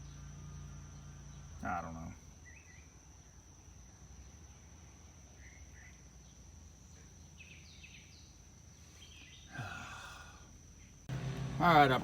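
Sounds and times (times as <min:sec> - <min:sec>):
faint bird chirps: 0:00.0 - 0:04.5, 0:05.2 - 0:11.1
high insect drone: 0:00.0 - 0:12.0.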